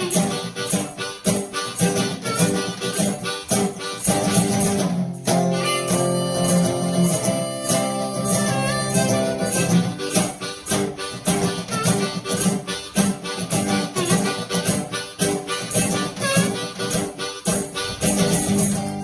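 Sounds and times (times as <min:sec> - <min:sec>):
foot tambourine beat: 0:00.0 - 0:19.0
harmonica: 0:00.0 - 0:19.0
resonator guitar: 0:00.0 - 0:19.0.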